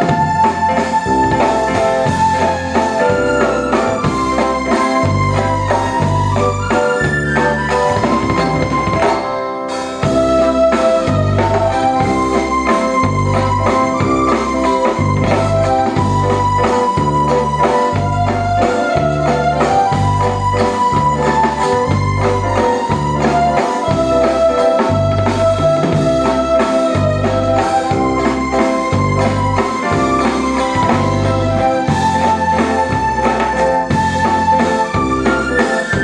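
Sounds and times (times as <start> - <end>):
waltz music: 0.0 - 36.0.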